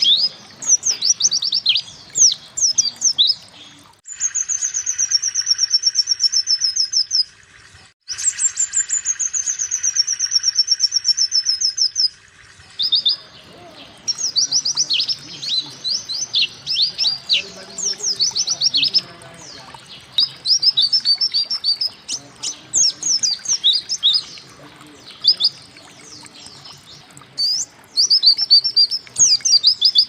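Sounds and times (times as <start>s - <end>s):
bird chirps: 0.0s - 7.3s, 8.1s - 30.0s.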